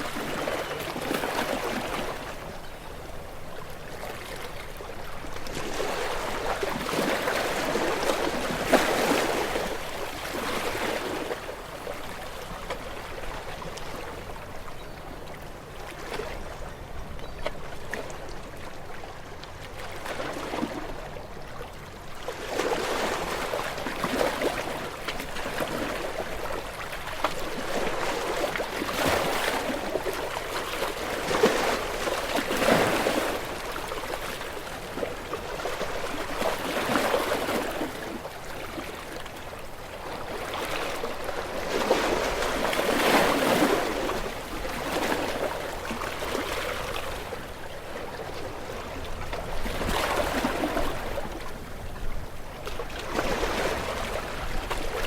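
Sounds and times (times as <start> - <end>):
waves washing onto shore: 0.0 - 14.6, 22.0 - 55.0.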